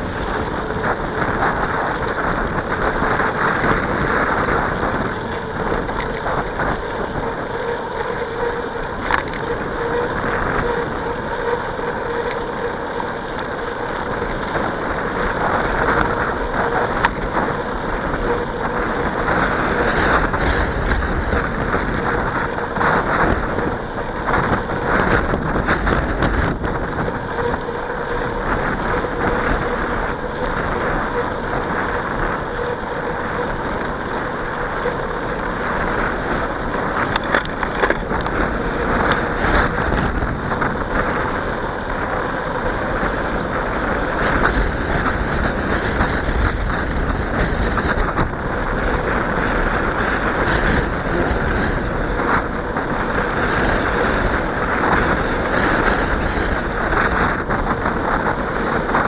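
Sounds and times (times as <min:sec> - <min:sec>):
bicycle tyre noise: 0:00.0 - 0:59.0
wind rushing: 0:00.0 - 0:59.0.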